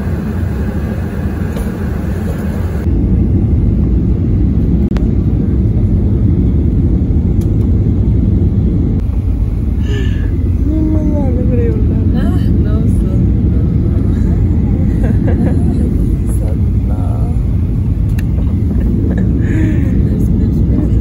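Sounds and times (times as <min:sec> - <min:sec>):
jet engines and airflow rumble: 0:00.0 - 0:21.0.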